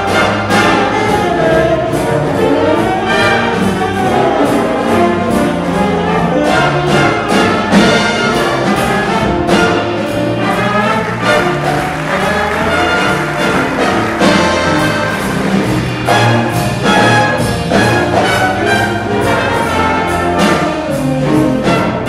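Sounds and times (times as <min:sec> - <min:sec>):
drums steady beat: 0:00.0 - 0:22.0
jazz big band playing swing: 0:00.0 - 0:22.0
saxophone solo: 0:00.0 - 0:22.0.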